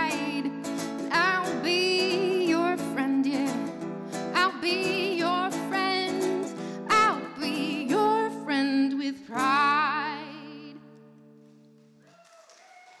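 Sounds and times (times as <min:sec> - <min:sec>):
woman singing: 0:00.0 - 0:11.1
acoustic guitar: 0:00.0 - 0:12.0.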